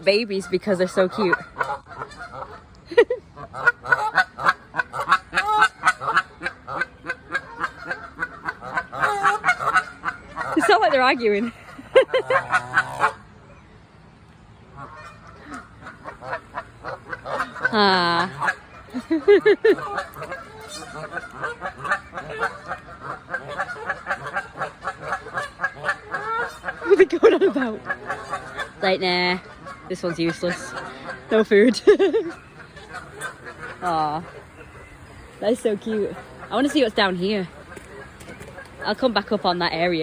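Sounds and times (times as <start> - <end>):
geese honking: 0.0 - 13.3, 14.7 - 40.0.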